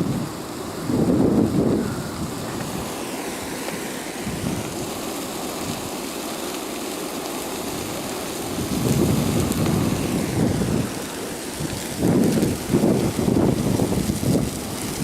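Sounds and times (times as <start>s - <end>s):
wildfire rushing: 0.0s - 15.0s.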